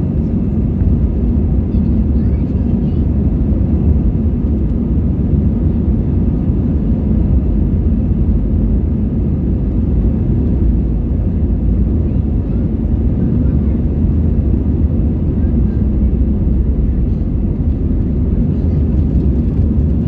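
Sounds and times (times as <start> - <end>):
airplane engines rumbling: 0.0 - 20.0.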